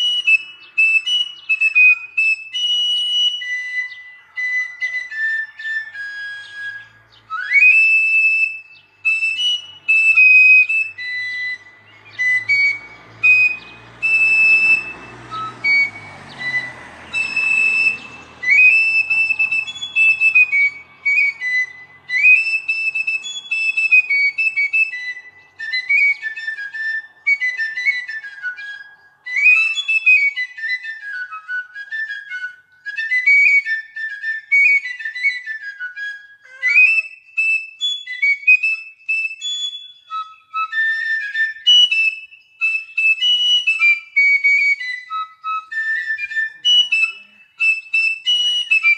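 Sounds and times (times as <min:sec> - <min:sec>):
fife melody: 0:00.0 - 0:48.9.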